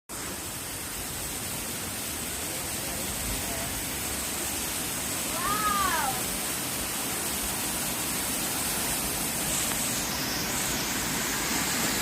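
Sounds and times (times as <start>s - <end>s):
waterfall rushing: 0.1s - 12.0s.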